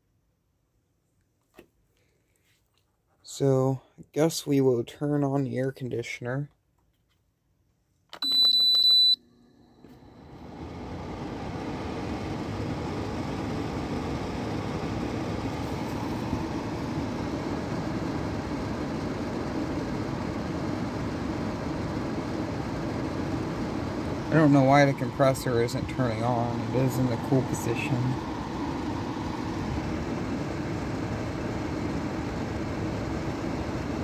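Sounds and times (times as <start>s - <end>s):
air conditioner fan whooshing hum: 0.0s - 6.4s, 8.9s - 34.0s.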